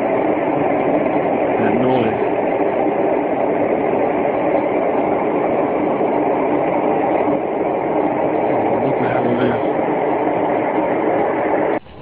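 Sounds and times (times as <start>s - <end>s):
loud rumbling drone: 0.0s - 12.0s.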